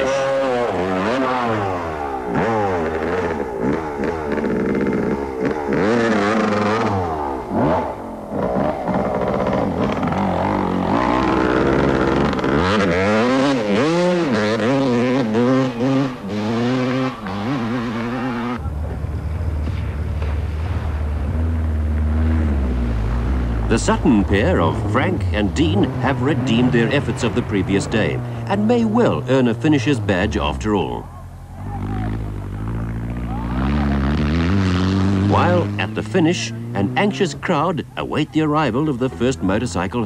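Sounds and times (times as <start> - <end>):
deep off-road vehicle engine drone: 0.0 - 40.0
motorcycle engine revving: 0.0 - 40.0.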